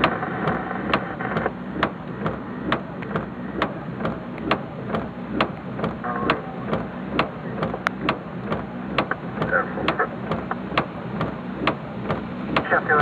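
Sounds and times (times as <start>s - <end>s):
low engine hum: 0.0s - 13.0s
turn signal relay ticking: 0.0s - 13.0s.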